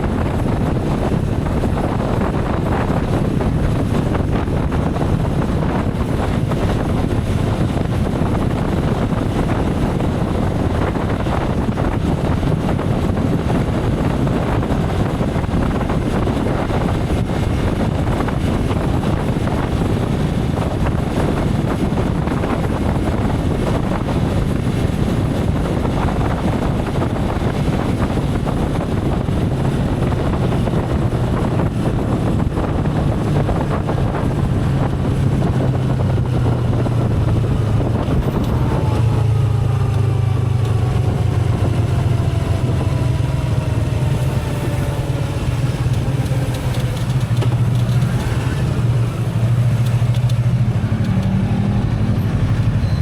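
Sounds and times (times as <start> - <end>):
motorcycle engine droning: 0.0 - 53.0
wind and road noise: 0.0 - 53.0.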